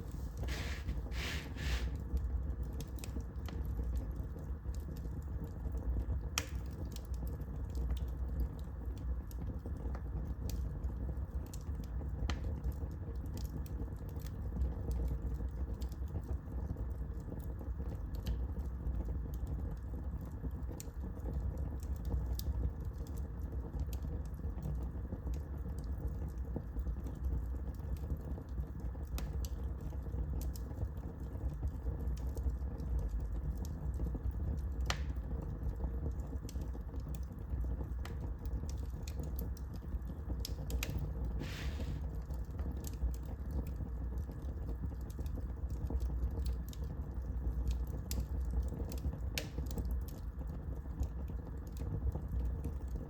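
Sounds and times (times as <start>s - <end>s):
fire crackling and popping: 0.0s - 53.0s
fire flames rumbling: 0.0s - 53.0s.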